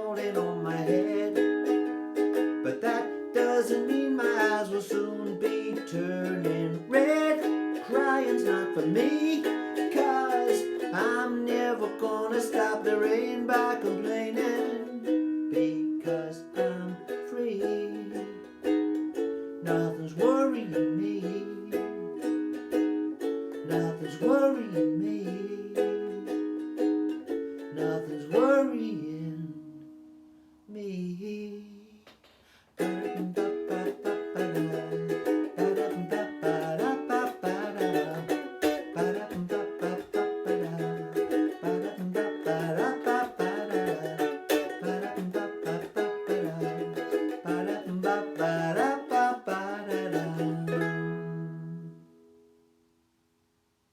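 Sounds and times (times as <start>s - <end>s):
ukulele strumming: 0.0s - 30.6s, 32.5s - 52.8s.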